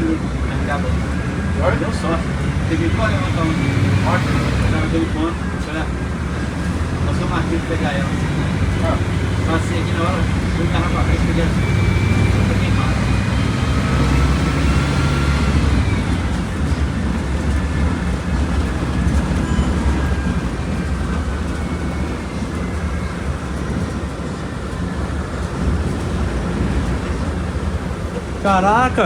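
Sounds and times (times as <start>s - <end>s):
bus diesel engine drone: 0.0s - 29.0s
road noise: 0.0s - 29.0s.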